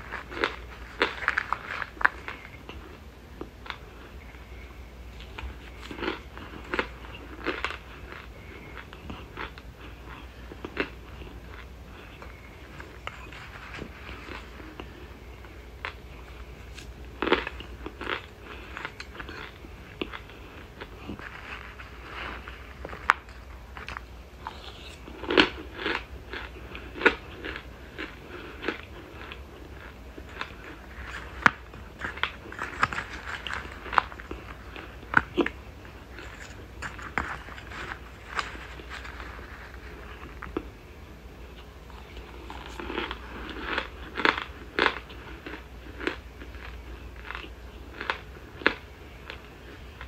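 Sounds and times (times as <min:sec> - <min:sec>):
person crunching cornstarch: 0:00.0 - 0:40.8, 0:41.5 - 0:50.0.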